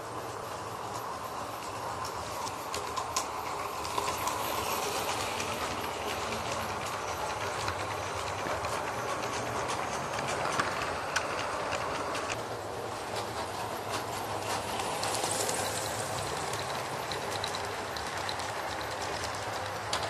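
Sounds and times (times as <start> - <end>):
model train running hum: 0.0 - 20.0
wheels clicking on rails: 0.0 - 20.0.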